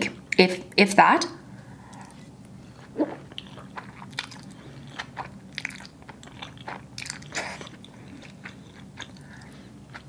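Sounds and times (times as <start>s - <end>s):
slurping and chewing noodles: 1.7s - 10.0s.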